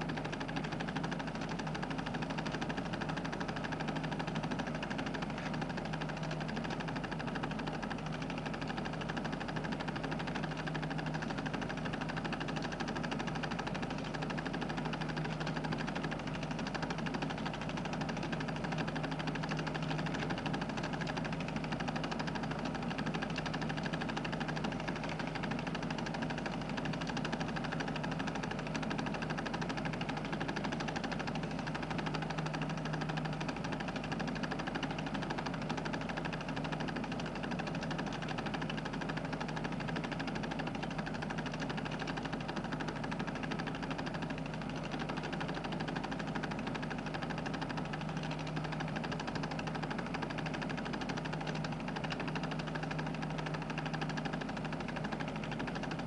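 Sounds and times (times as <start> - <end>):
film projector running: 0.0 - 56.0.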